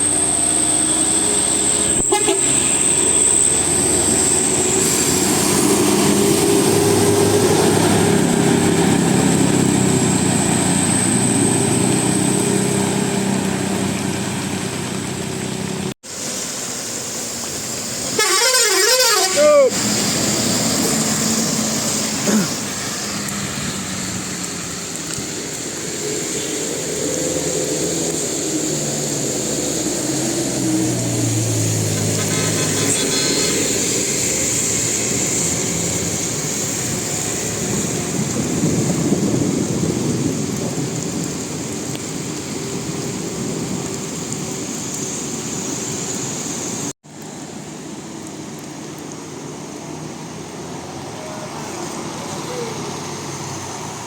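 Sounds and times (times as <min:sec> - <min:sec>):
vehicle engines passing: 0:00.0 - 0:18.2, 0:19.3 - 0:54.0.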